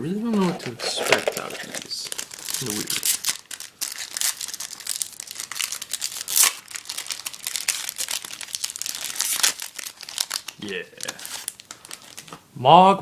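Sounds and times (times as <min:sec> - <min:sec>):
foil wrapper crinkling: 0:00.3 - 0:12.4.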